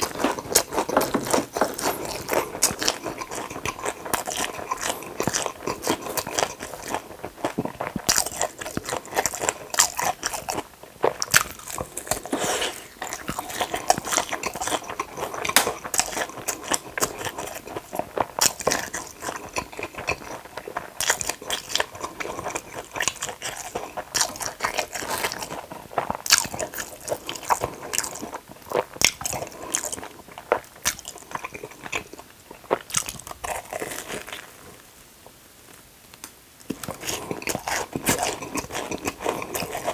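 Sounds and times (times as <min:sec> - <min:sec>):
crunchy eating and chewing: 0:00.0 - 0:35.0, 0:36.6 - 0:39.9.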